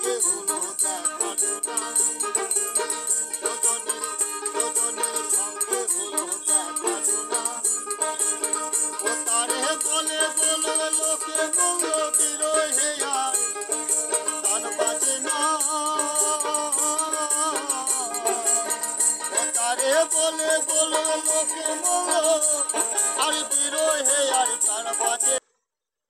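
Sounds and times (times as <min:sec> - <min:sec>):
jingling rattle percussion: 0:00.0 - 0:25.4
person singing ornamented melody: 0:00.0 - 0:25.4.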